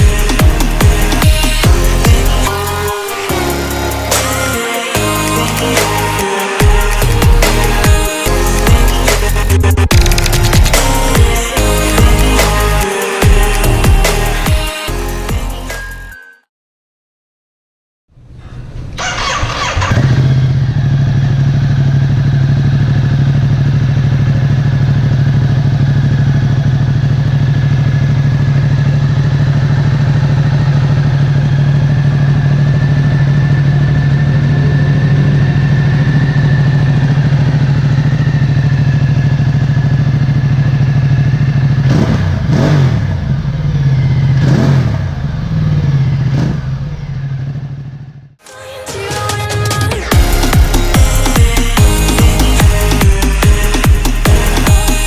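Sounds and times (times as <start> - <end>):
motorcycle engine idling: 0.0 - 14.4, 18.3 - 48.3, 49.5 - 55.0
motorcycle engine revving: 0.0 - 14.5, 18.3 - 48.4, 49.5 - 55.0.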